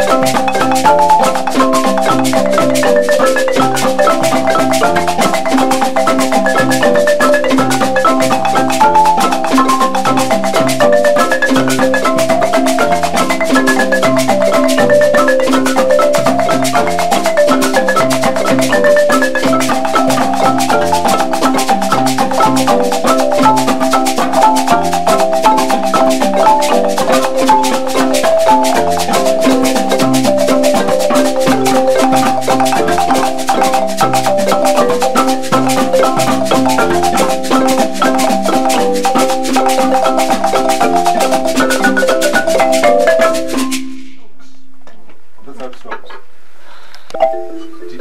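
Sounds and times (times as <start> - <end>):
marimba ensemble playing: 0.0 - 44.2, 47.1 - 48.0.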